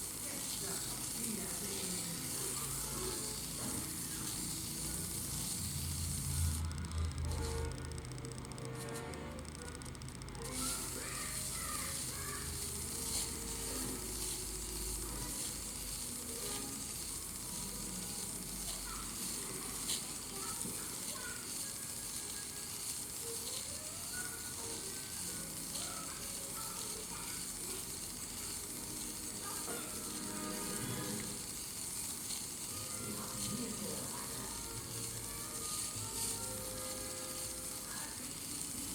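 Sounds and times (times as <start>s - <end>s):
small clicks: 0.0s - 38.9s.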